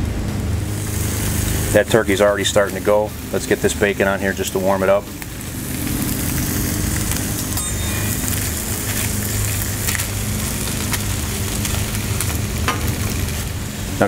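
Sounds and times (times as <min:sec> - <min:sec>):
lawn mower hum: 0:00.0 - 0:14.0
meat sizzling on a griddle: 0:00.4 - 0:14.0.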